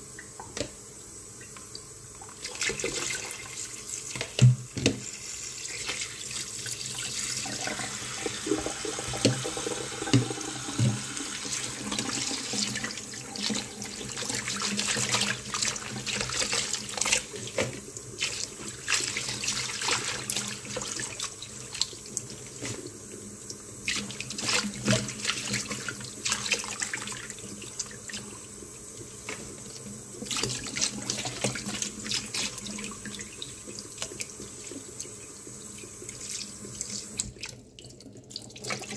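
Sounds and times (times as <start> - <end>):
tap water running into bowl: 1.4 - 38.9.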